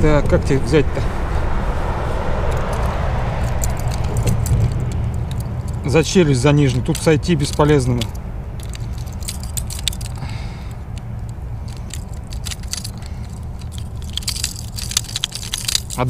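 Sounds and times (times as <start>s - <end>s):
steady low rumble: 0.0s - 16.0s
irregular clicks: 2.5s - 16.0s
metallic hook rattles: 2.5s - 16.0s.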